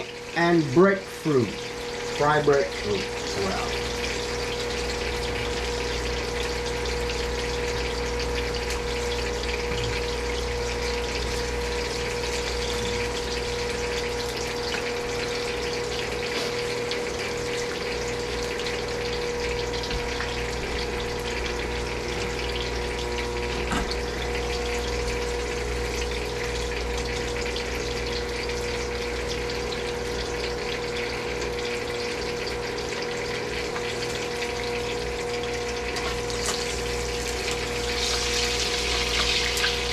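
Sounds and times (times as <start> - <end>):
constant hum: 0.0 - 39.9
hot oil sizzling and crackling: 0.0 - 39.9.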